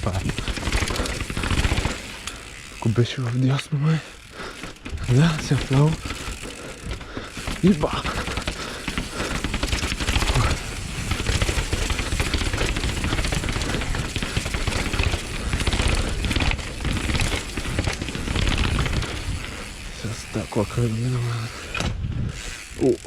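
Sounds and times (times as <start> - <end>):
mountain bike rattling over rough ground: 0.0 - 23.0.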